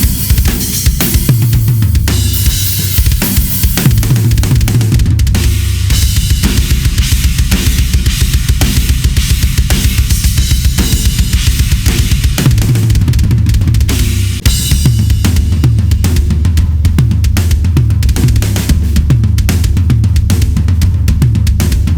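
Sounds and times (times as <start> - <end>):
drum kit groove and fill: 0.0 - 21.9.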